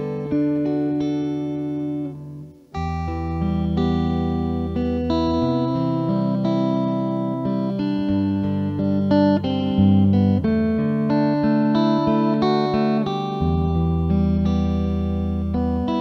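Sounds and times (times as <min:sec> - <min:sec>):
electric guitar melody: 0:00.0 - 0:16.0.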